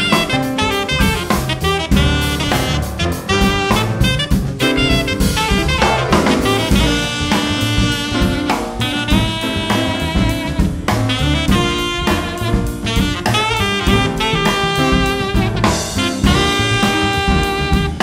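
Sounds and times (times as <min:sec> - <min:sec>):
alto saxophone: 0:00.0 - 0:18.0
busy drum kit: 0:00.0 - 0:18.0
jazz quartet playing: 0:00.0 - 0:18.0.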